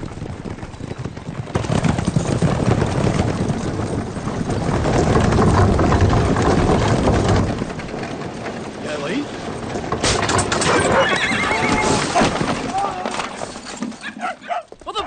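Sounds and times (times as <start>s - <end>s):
hooves clattering on dirt: 0.0s - 15.0s
wooden cart wheels rumbling: 0.0s - 15.0s.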